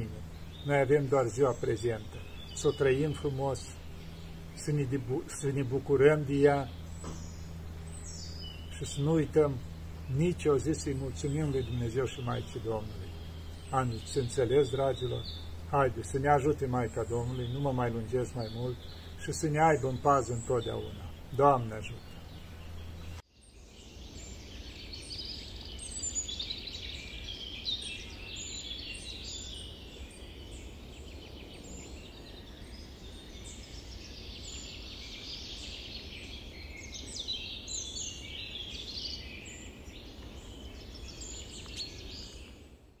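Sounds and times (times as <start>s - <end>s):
low steady background rumble: 0.0s - 43.0s
small birds chirping and singing: 0.0s - 43.0s.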